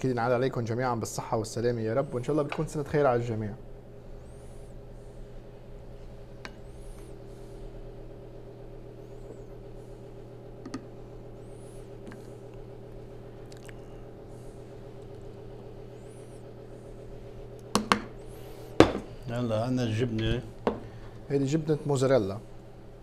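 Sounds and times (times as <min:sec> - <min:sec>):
low humming tones: 0:00.0 - 0:23.0.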